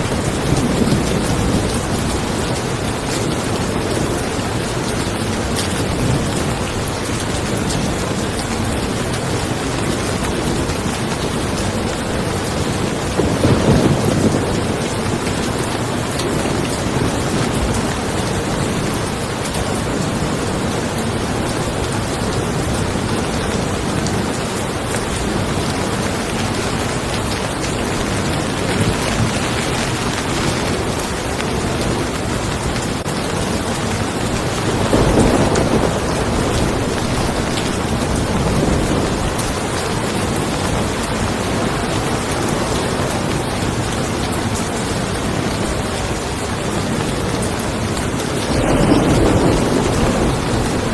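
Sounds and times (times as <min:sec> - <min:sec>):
rolling thunder: 0:00.0 - 0:43.4, 0:47.8 - 0:50.9
rain falling on a car: 0:00.0 - 0:50.9.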